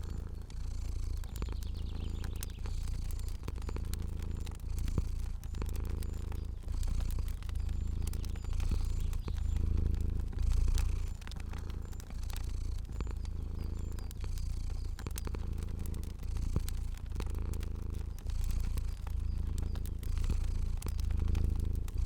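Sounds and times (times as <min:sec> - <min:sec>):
cat purring: 0:00.0 - 0:22.0
fire crackling: 0:00.0 - 0:22.0.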